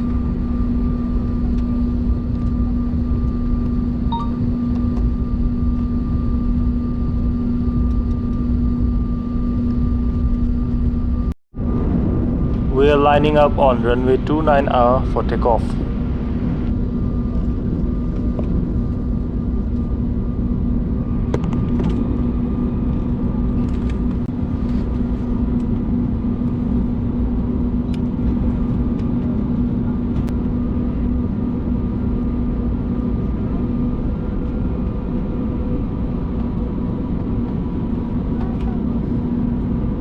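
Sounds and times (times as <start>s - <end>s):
jet engines rumbling in cabin: 0.0s - 40.0s.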